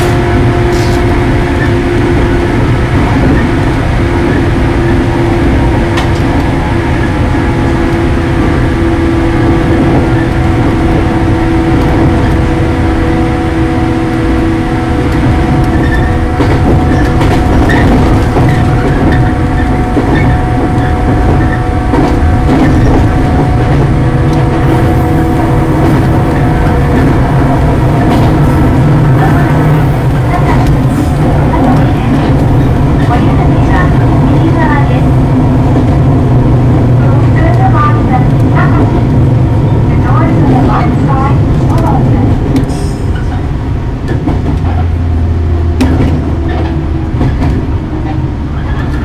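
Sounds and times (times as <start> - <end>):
train wheels rumbling on track: 0.0 - 49.0.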